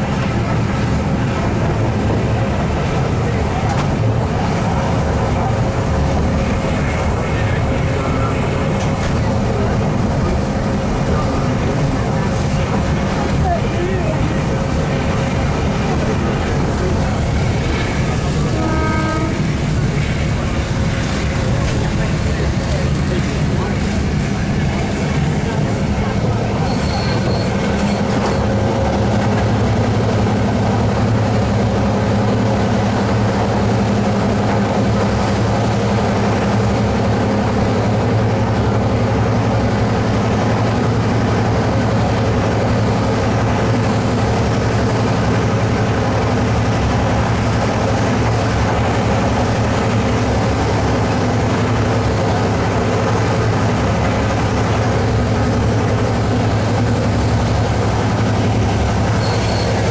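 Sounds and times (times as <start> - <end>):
diesel locomotive droning: 0.0 - 59.9
rolling rail noise: 0.0 - 59.9.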